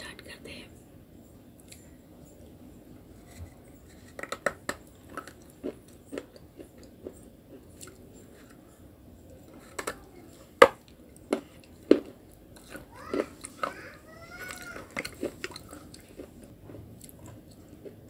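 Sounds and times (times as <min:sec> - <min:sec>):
crunchy chewing: 0:03.2 - 0:18.0.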